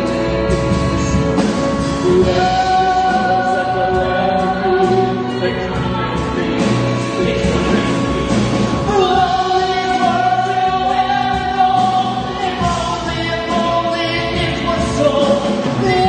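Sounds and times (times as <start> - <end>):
band accompaniment: 0.0 - 16.0
voices singing held notes: 0.0 - 16.0.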